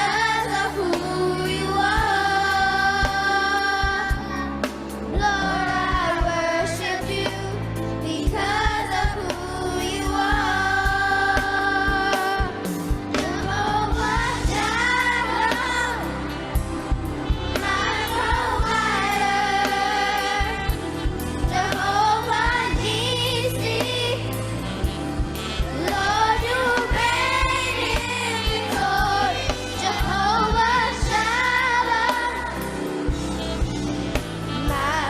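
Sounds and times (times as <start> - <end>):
backing music with drum beat: 0.0 - 35.0.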